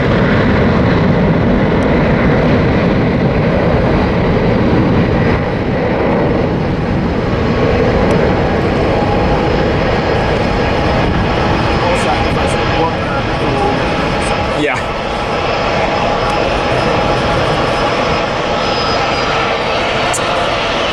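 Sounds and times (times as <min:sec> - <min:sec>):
jet engine roaring at takeoff: 0:00.0 - 0:20.9.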